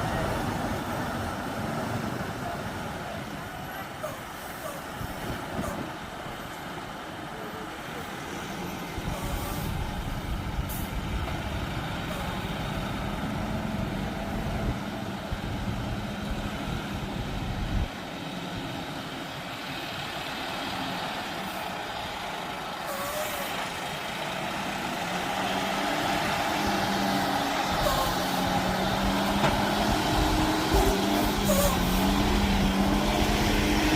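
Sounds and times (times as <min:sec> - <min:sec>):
heavy truck engine running: 0:00.0 - 0:33.9.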